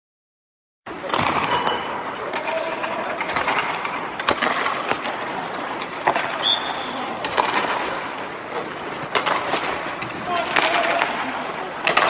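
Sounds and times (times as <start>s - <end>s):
pucks struck by sticks: 0.9s - 12.0s
skate blades scraping ice: 1.0s - 12.0s.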